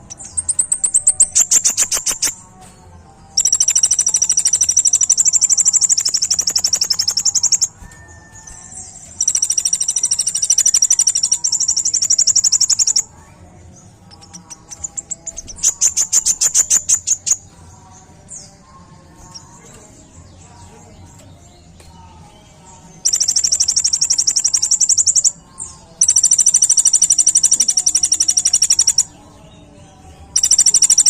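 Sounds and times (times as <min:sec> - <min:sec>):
bird chirps: 0:00.0 - 0:02.5, 0:03.4 - 0:29.4, 0:30.3 - 0:31.0.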